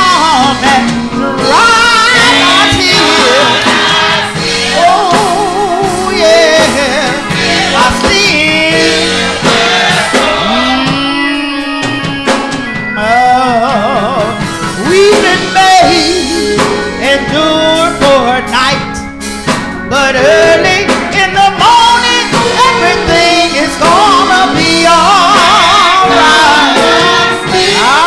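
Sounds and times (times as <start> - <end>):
lead vocal singing with vibrato: 0.0 - 18.8, 19.9 - 28.0
gospel song with band: 0.0 - 28.0.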